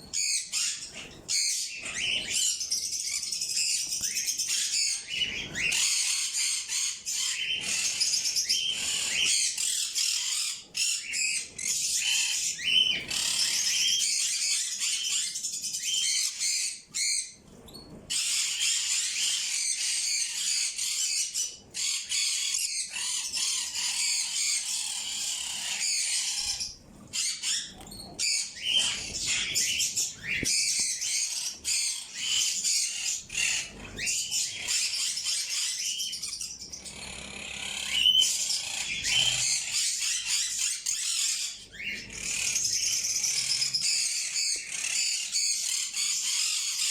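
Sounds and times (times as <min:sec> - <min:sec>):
flock of birds chirping and squawking: 0:00.0 - 0:46.9.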